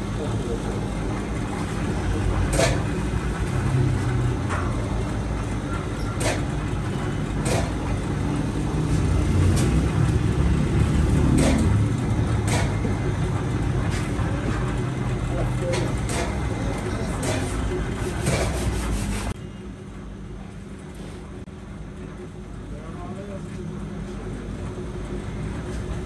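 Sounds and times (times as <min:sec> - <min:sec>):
oven mechanical rumble: 0:00.0 - 0:26.0.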